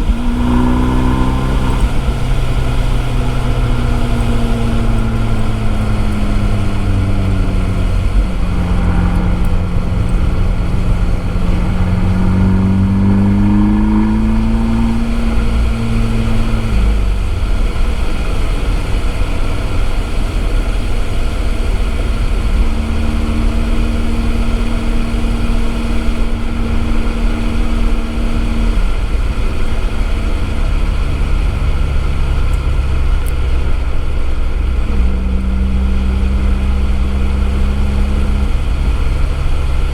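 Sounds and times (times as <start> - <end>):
car engine accelerating: 0.0 - 39.9
road and tyre noise hiss: 0.0 - 39.9.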